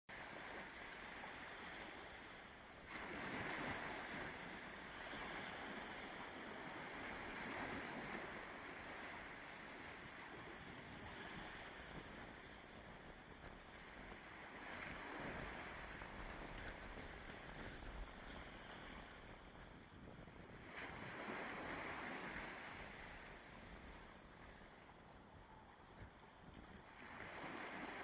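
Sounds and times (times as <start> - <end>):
sea waves breaking: 0.1 - 28.0
wind buffeting microphone: 3.1 - 28.0.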